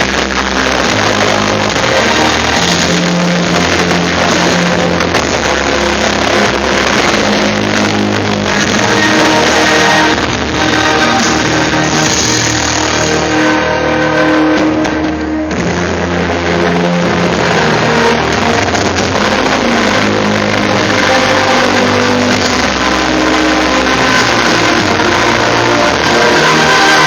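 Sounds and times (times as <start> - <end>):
loud music with held notes: 0.0 - 27.0.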